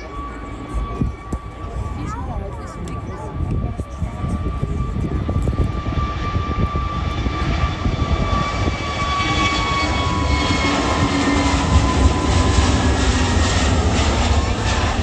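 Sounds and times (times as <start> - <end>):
jet airliner engines passing: 0.0 - 15.0.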